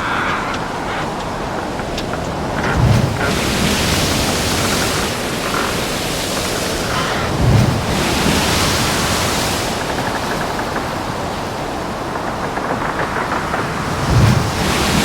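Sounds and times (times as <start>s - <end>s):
waves washing: 0.0s - 15.0s
wind: 0.0s - 15.0s.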